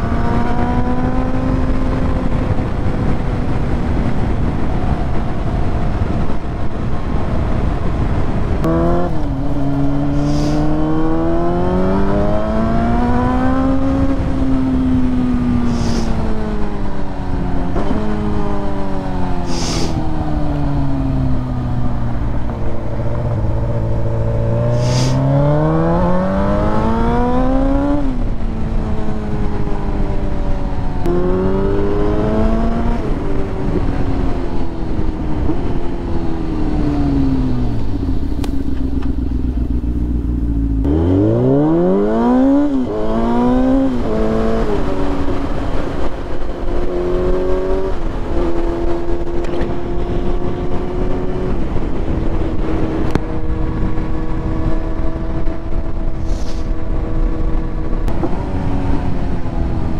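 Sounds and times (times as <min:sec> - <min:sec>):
motorcycle engine revving: 0:00.0 - 0:06.5, 0:08.1 - 0:59.9
wind noise: 0:00.0 - 0:59.9.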